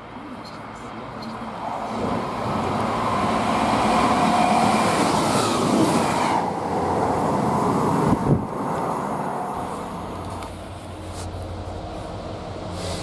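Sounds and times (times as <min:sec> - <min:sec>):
train passing at speed: 0:00.8 - 0:13.0.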